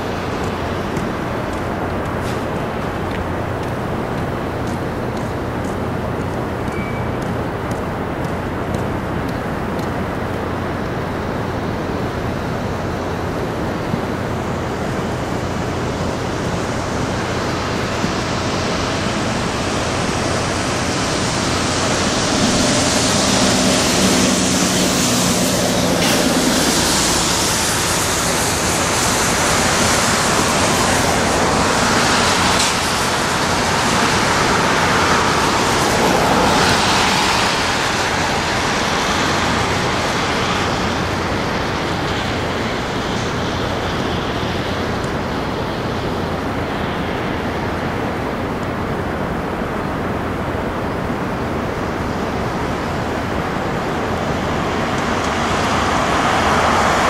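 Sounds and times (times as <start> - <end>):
steady rushing outdoor noise: 0.0 - 57.0.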